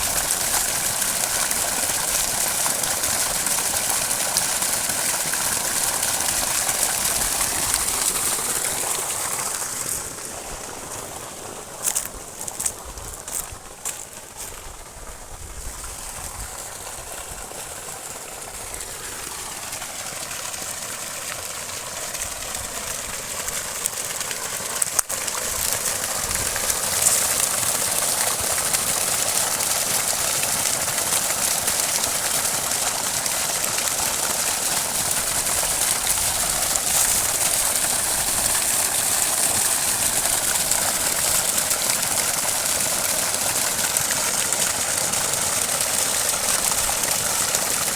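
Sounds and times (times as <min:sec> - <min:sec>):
pump motor running: 0:00.0 - 0:47.9.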